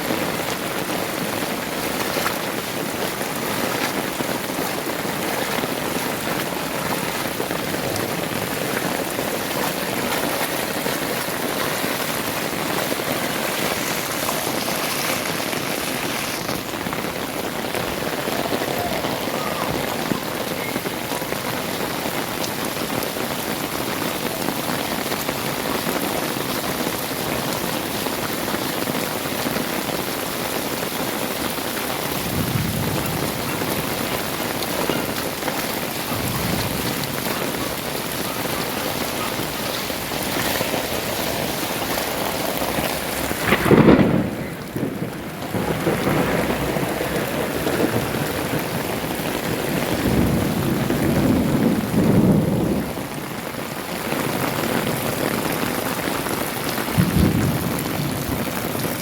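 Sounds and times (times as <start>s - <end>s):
thunder rumbling: 0.0s - 27.6s, 31.9s - 55.5s, 56.4s - 59.0s
heavy rain pouring: 0.0s - 59.0s.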